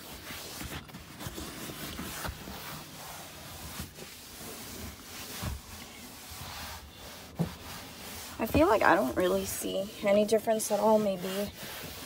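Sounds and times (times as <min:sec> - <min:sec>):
wipe scrubbing leather seat: 0:00.0 - 0:12.0.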